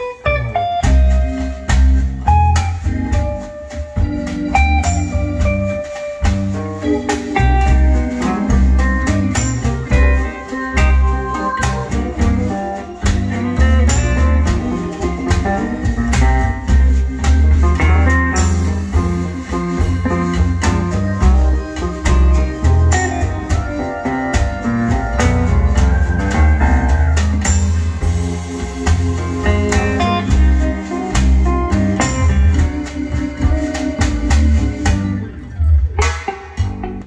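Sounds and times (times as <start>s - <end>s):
instrumental music over loudspeakers: 0.0s - 37.0s.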